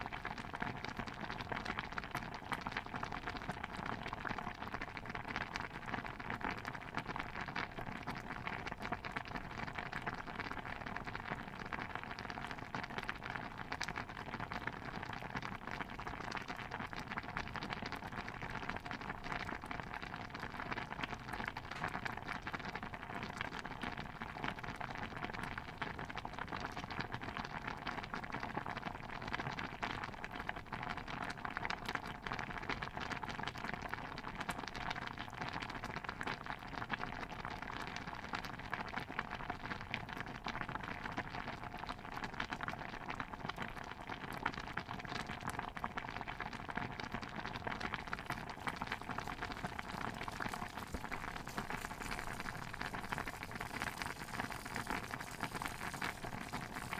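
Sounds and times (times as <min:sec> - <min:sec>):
stew bubbling in a pot: 0:00.0 - 0:56.9.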